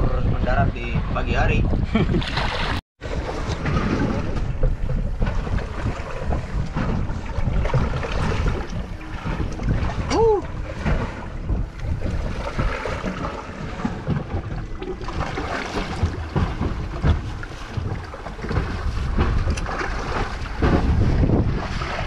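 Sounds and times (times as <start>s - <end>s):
waves slapping boat hull: 0.0s - 22.0s
wind buffeting microphone: 0.0s - 22.0s.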